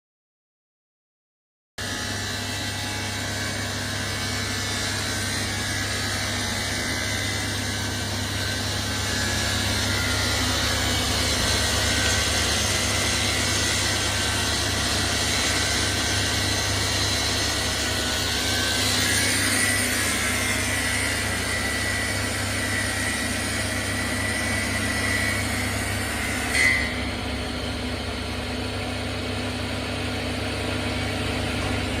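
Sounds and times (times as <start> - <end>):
saw motor humming: 1.8 - 32.0.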